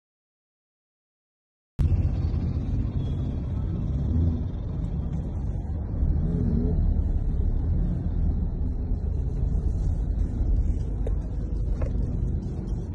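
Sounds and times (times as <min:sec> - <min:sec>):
vehicle and road rumble: 0:01.8 - 0:12.9.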